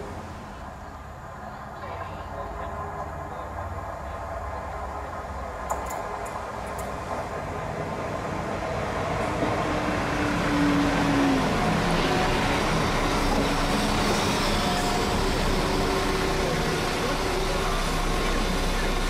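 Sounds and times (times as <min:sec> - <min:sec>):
diesel train engines passing: 0:00.0 - 0:19.0
train wheels on rails: 0:02.6 - 0:19.0.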